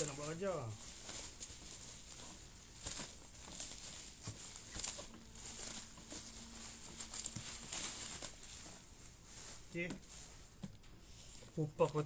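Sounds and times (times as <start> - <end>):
plastic wrapping rustling: 0.0 - 12.0.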